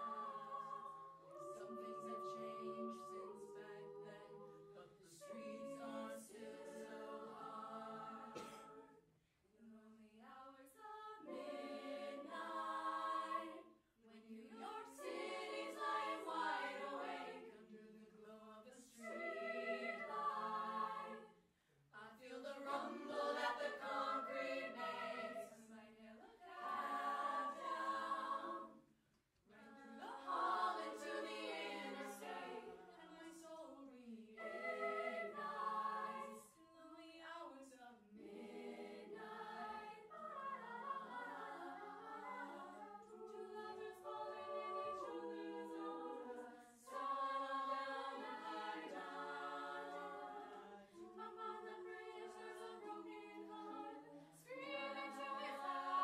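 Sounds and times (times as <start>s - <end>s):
women singing in harmony: 0.0s - 9.0s, 9.6s - 28.9s, 29.5s - 56.0s.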